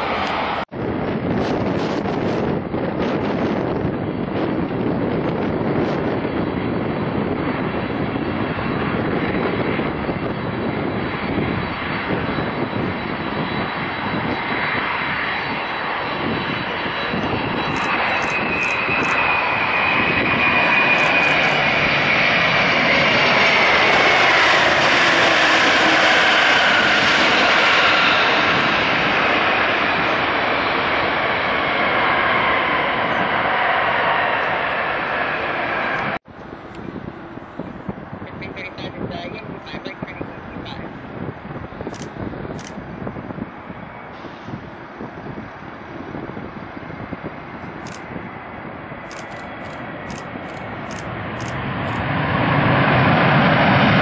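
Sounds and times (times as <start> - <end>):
jet airliner landing: 0.0 - 54.0
jet engine whine falling in pitch: 0.0 - 54.0.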